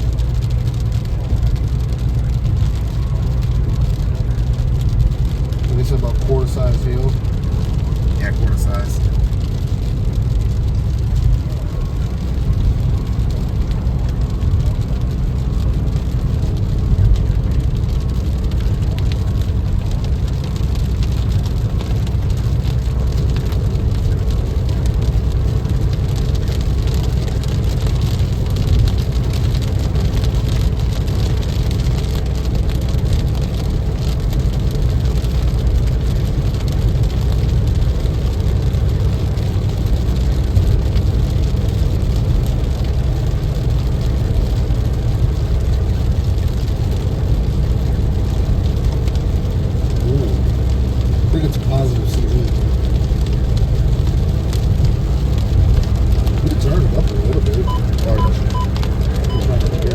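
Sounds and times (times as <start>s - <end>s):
car road and engine rumble: 0.0s - 59.9s
rain hitting car: 0.0s - 59.9s.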